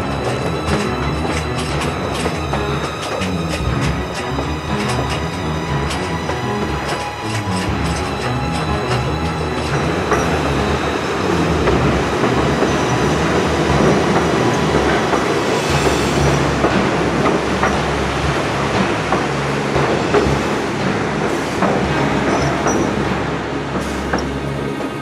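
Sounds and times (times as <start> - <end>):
train cars rumbling on track: 0.0 - 25.0
wheels clacking over rail joints: 0.0 - 25.0.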